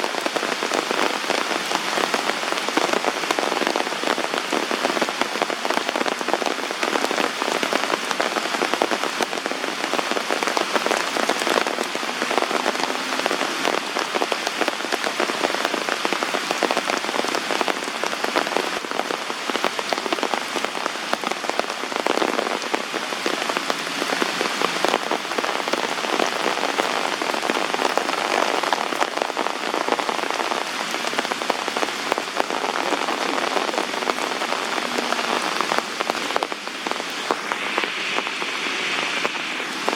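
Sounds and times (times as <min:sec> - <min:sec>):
heavy rain patter: 0:00.0 - 0:39.9.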